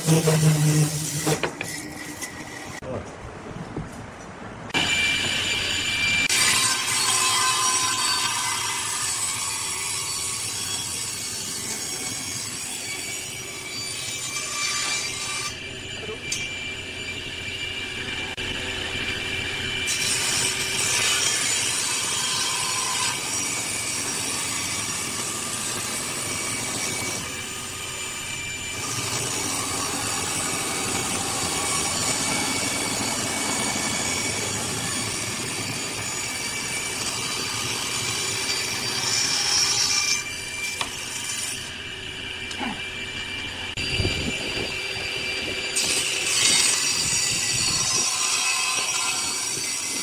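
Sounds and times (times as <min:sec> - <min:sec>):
table saw cutting wood: 0:00.0 - 0:02.8, 0:04.8 - 0:41.9, 0:42.6 - 0:50.0.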